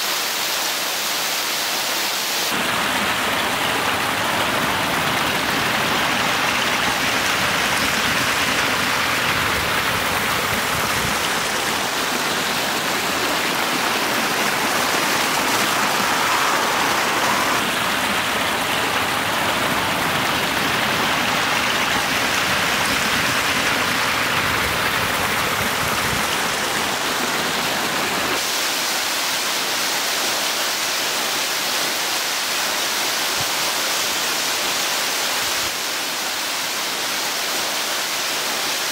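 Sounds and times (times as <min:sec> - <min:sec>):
water cascading over rocks: 0:00.0 - 0:38.9.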